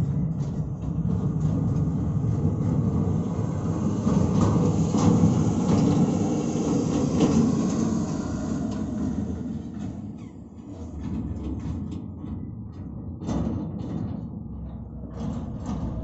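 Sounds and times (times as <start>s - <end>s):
heavy truck rumbling: 0.0s - 16.0s.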